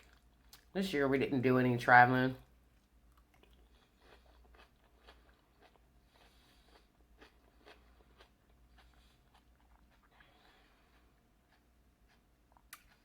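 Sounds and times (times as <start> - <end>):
close-up chewing: 0.0 - 0.7, 2.4 - 13.0.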